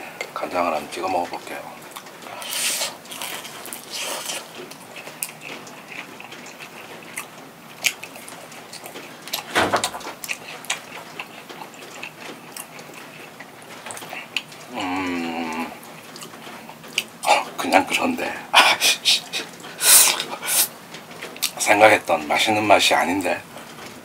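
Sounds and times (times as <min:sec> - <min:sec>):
chewing crisp food: 0:00.2 - 0:24.0.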